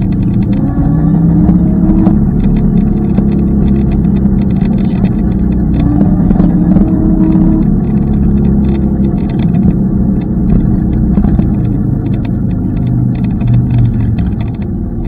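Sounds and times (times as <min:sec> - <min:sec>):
low held traffic tones: 0:00.0 - 0:15.0
wind and road noise rumbling: 0:00.0 - 0:15.0.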